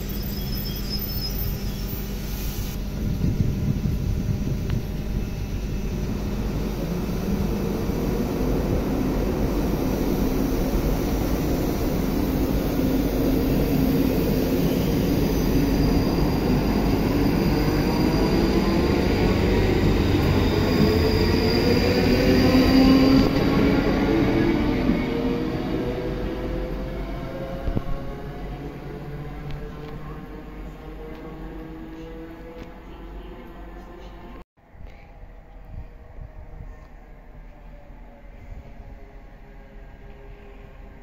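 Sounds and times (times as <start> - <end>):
train whine rising in pitch: 0.0 - 33.1
train wheels rumbling on rails: 0.0 - 41.0.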